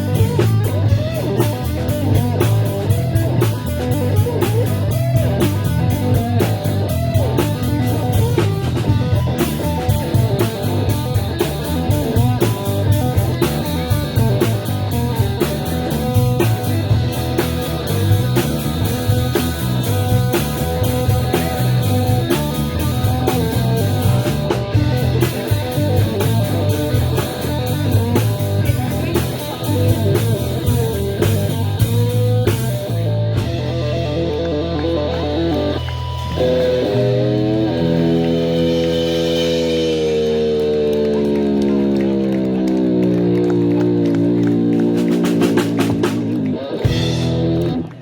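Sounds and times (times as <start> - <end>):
steady drumbeat: 0.0 - 34.4, 35.6 - 48.0
electric guitar: 0.0 - 48.0
rock band playing: 0.0 - 48.0.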